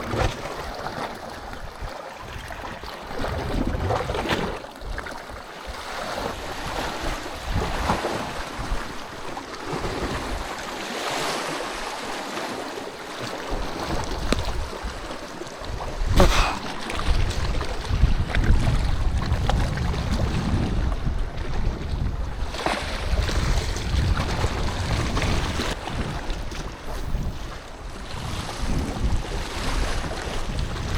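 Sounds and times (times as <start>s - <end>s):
wind buffeting microphone: 0.0s - 10.7s, 13.2s - 30.9s
sea waves washing on shore: 0.0s - 30.9s.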